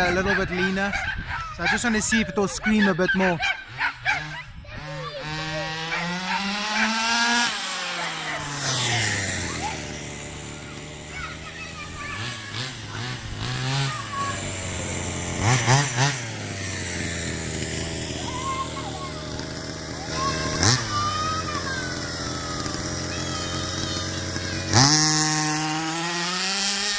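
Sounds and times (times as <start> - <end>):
rc car engine screaming: 0.0 - 26.9.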